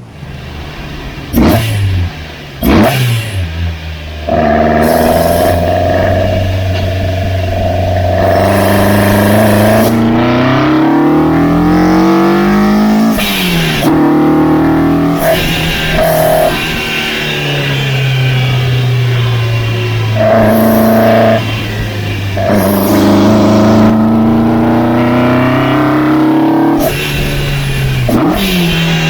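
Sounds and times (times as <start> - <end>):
car engine at high revs: 0.0 - 29.0.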